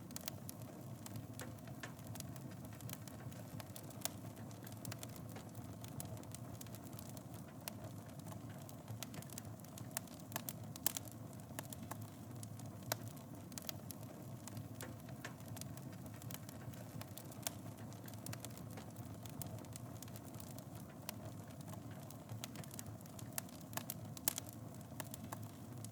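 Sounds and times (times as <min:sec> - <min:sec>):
fire crackling and popping: 0:00.0 - 0:25.9.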